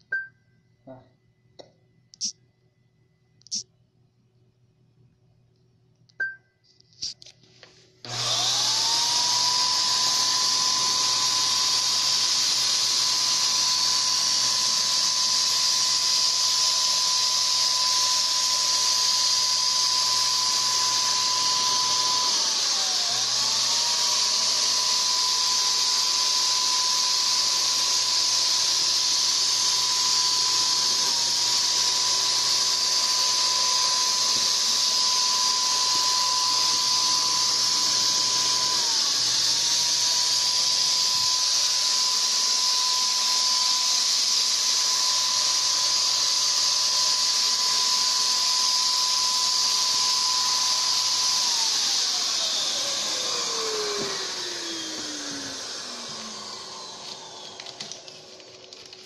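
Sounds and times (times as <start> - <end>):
paint sprayer motor whine: 8.0 - 59.0.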